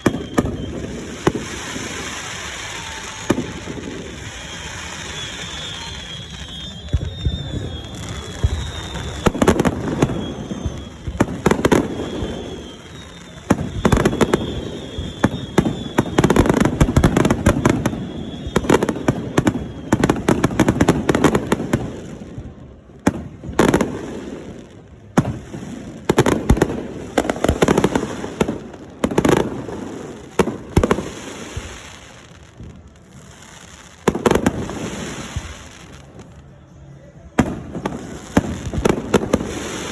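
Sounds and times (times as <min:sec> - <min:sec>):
fireworks bursting with bangs: 0:00.0 - 0:39.9
fireworks crackle: 0:00.0 - 0:39.9.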